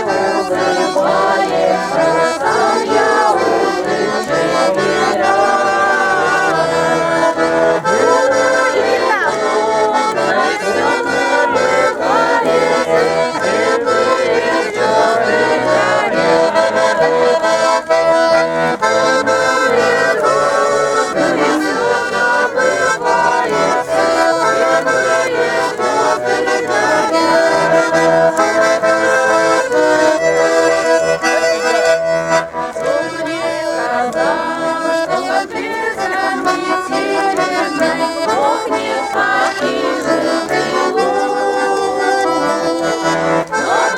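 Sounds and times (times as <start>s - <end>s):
accordion folk tune: 0.0s - 43.9s.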